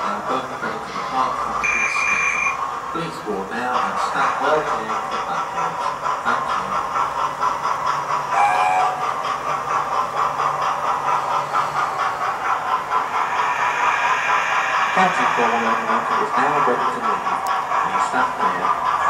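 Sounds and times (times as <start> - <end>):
model steam train chuffing: 0.0 - 19.0
wheels running on track: 0.0 - 19.0.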